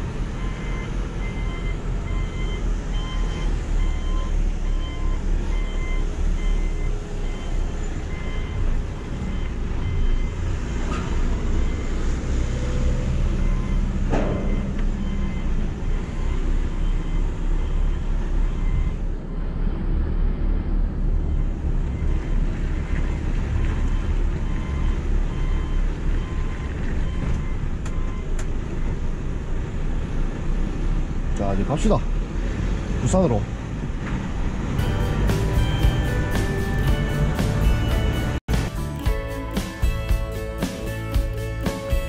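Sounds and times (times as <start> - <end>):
truck diesel engine rumble: 0.0 - 42.0.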